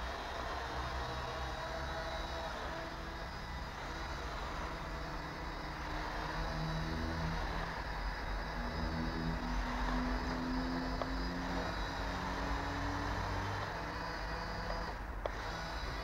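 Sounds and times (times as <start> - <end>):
drone propeller motors humming: 0.0 - 16.0.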